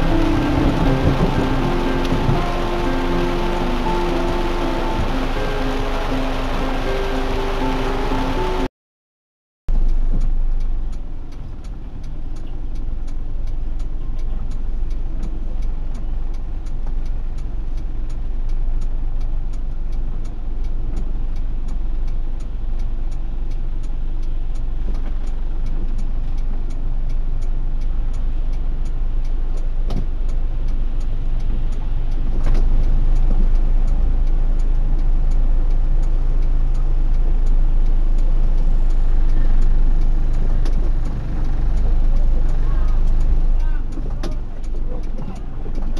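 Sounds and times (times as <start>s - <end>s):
car engine and road rumble: 0.0s - 8.7s, 9.7s - 45.9s
raindrops ticking on windshield: 0.0s - 8.7s, 9.8s - 45.9s.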